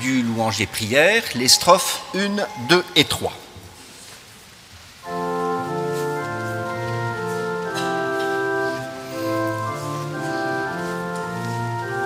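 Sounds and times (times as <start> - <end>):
church pipe organ chords: 0.0 - 3.7, 5.0 - 12.0.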